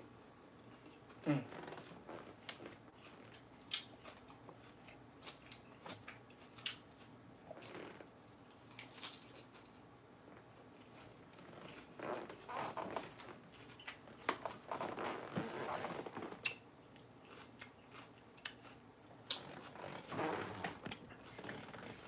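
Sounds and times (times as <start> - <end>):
person chewing crisp lettuce: 0.6 - 22.0.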